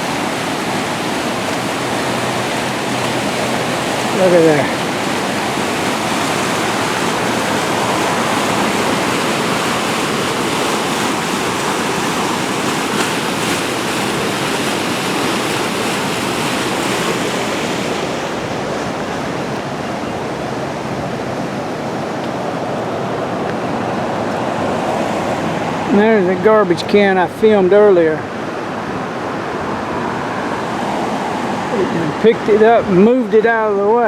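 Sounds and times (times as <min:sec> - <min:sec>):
water rushing under bridge: 0:00.0 - 0:34.0.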